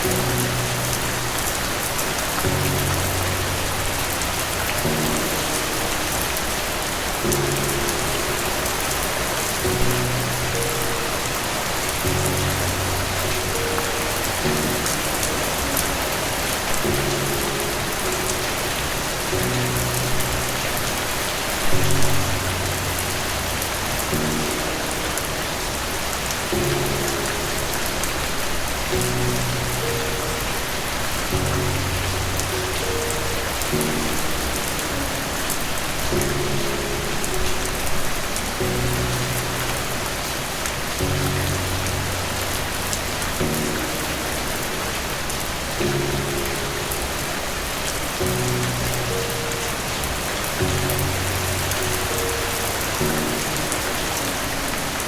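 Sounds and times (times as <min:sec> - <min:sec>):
heavy rain hissing: 0:00.0 - 0:55.0
slow instrumental music: 0:00.0 - 0:55.0.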